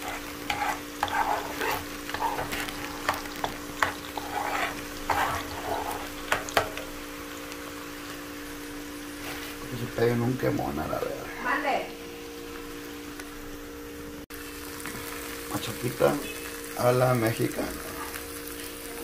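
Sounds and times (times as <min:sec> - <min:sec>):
steady low hum: 0:00.0 - 0:15.4
light frying: 0:00.0 - 0:19.0.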